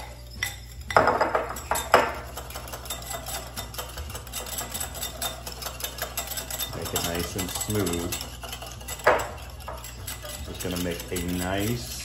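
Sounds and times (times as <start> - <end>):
whisk ticking against glass bowl: 0.0 - 12.0.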